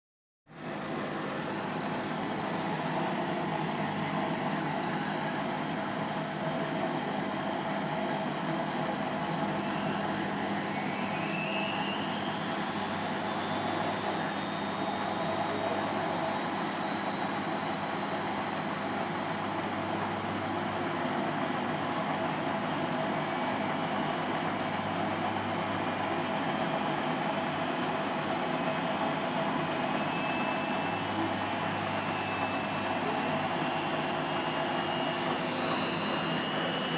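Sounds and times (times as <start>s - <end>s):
washing machine spinning: 0.6s - 36.9s
motor whine rising in pitch: 0.7s - 36.9s.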